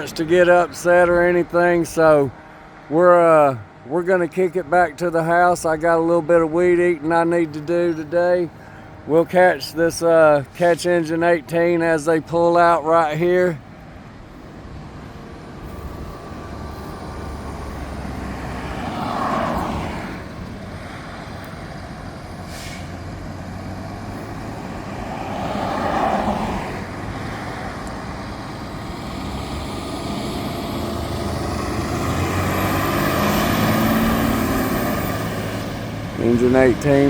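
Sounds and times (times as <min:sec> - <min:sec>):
fire engine engine: 0:00.0 - 0:37.0
highway traffic: 0:00.0 - 0:37.0
vehicles passing by: 0:00.0 - 0:37.0.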